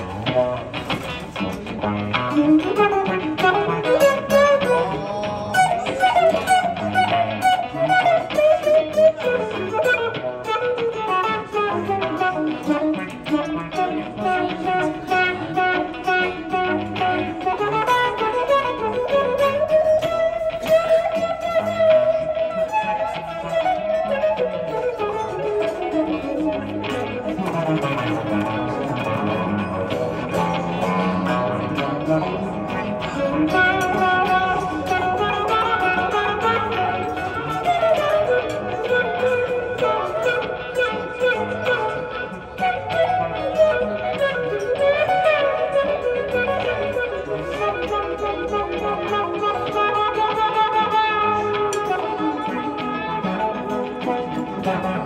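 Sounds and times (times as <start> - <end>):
acoustic guitar picked notes: 0.0 - 55.0.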